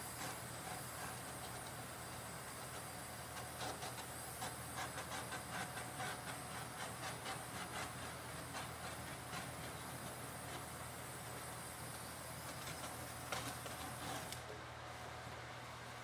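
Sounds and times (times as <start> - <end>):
butane torch hissing: 0.0 - 15.1.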